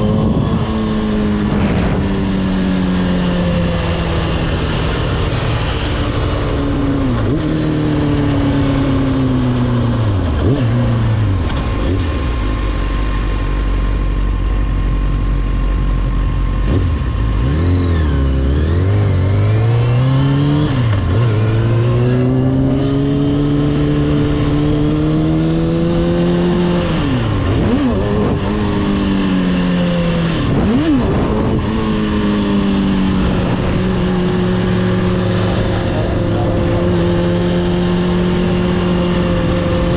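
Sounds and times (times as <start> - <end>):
wind noise: 0.0 - 11.9, 18.9 - 39.9
motorcycle engine revving: 0.0 - 39.9.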